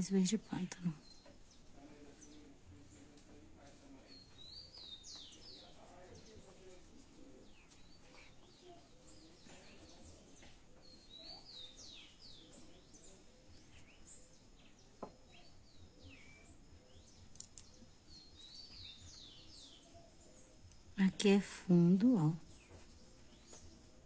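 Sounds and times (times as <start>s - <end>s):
faint small birds chirping: 0.0s - 24.0s.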